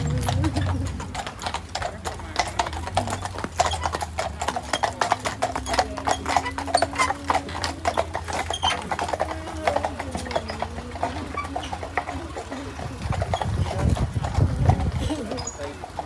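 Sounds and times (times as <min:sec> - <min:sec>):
horses clip-clopping on tarmac: 0:00.0 - 0:16.0.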